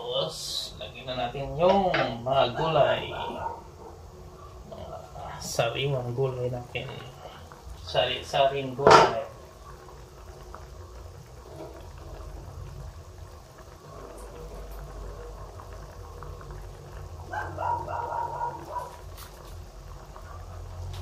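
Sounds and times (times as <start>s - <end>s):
sauce bubbling in a wok: 0.2s - 21.0s.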